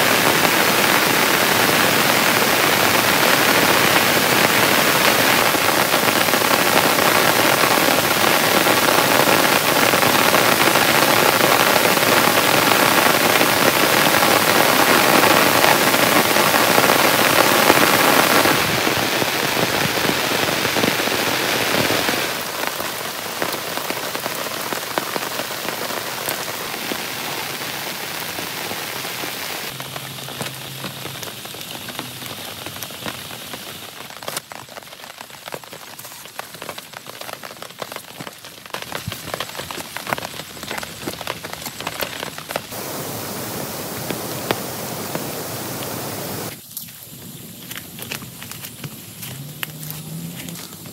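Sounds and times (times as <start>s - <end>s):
heavy rain pouring: 0.0s - 46.6s.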